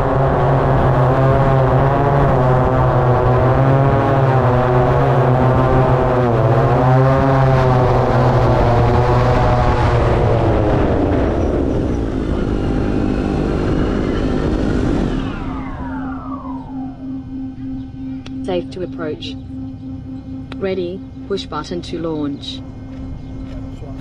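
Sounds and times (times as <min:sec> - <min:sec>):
drone propellers whirring: 0:00.0 - 0:24.0.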